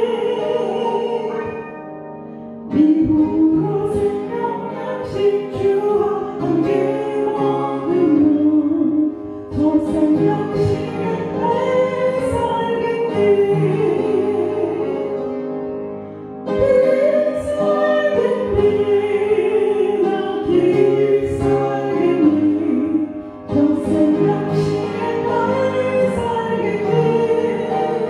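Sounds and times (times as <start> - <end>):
woman singing a hymn: 0.0 - 1.6, 2.7 - 15.5, 16.5 - 28.0
piano accompaniment: 0.0 - 28.0.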